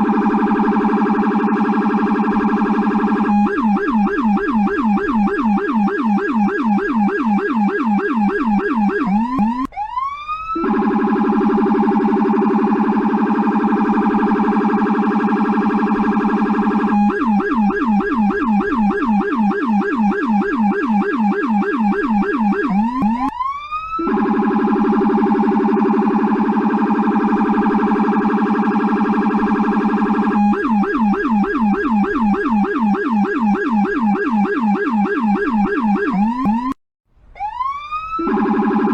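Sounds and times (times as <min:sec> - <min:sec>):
police siren yelp and warble: 0:00.0 - 0:38.9.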